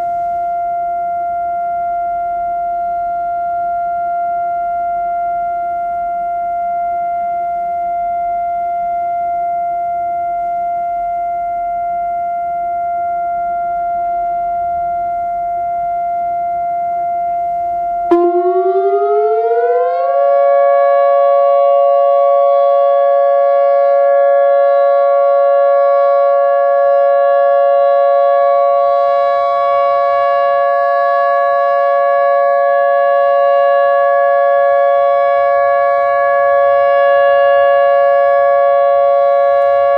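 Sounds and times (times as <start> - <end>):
lower siren tone gliding up: 0.0 - 39.9
warning siren steady tone: 0.0 - 39.9.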